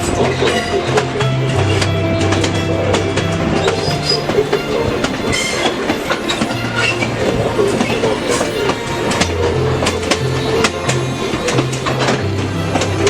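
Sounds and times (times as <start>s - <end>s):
music playing: 0.0s - 13.0s
train wheels clicking and rattling: 0.0s - 13.0s.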